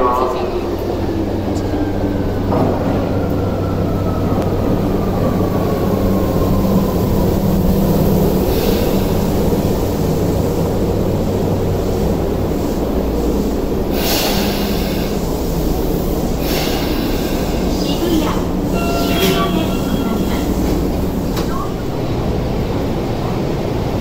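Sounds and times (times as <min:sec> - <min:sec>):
subway train pulling in: 0:00.0 - 0:24.0.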